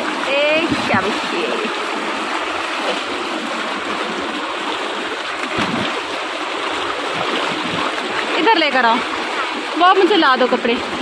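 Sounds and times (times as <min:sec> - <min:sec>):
water pouring from pipe: 0:00.0 - 0:11.0
water splash: 0:00.0 - 0:11.0.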